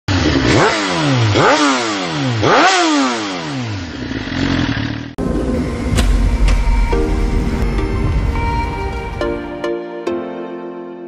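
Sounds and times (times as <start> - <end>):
motorcycle engine revving: 0.1 - 9.2.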